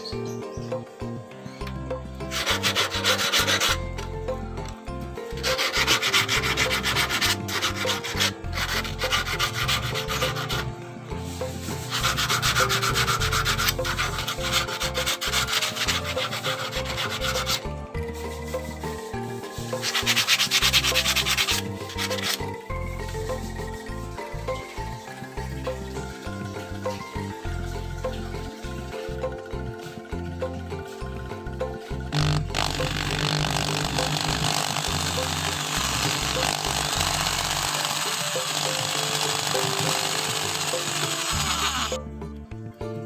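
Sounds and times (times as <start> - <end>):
sandpaper rubbing on steel: 2.2 - 4.0, 5.3 - 28.2, 32.1 - 42.0.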